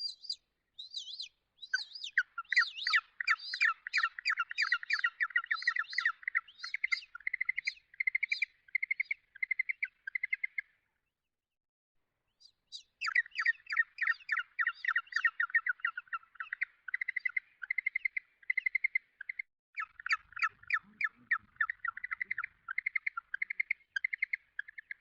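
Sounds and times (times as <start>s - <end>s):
penguin chirping calls: 0.0s - 10.5s, 12.7s - 25.0s.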